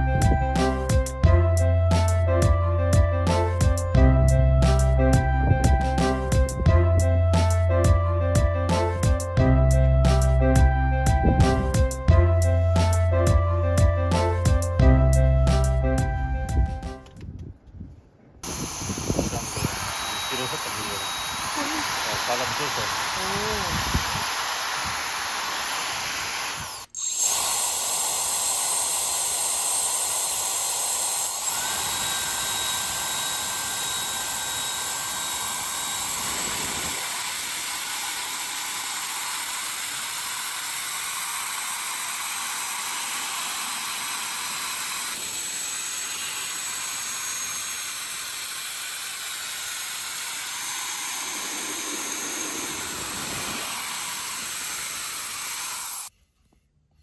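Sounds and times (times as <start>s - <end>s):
small electric motor whining: 0.0s - 17.2s, 18.4s - 56.1s.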